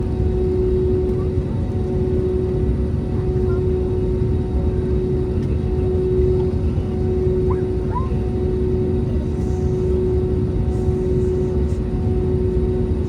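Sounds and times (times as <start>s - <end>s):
airliner low rumble: 0.0s - 13.0s.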